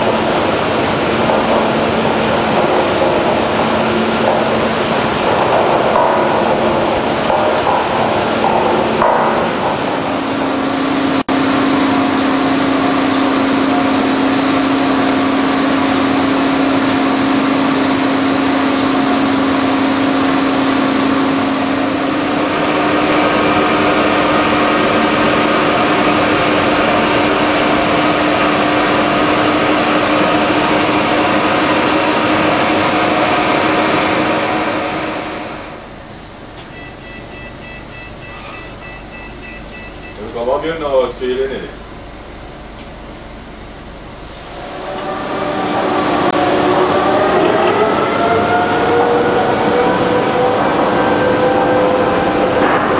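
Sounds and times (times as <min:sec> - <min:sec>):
drilling rig machinery hum: 0:00.0 - 0:52.9.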